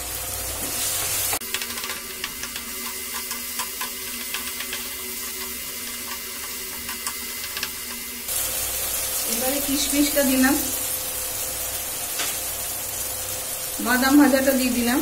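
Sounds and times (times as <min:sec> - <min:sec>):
filling sizzling in hot oil: 0:00.0 - 0:15.0.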